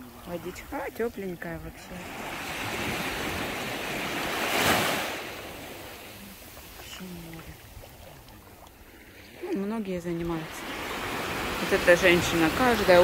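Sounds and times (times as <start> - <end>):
small waves washing on shore: 0.0 - 13.0.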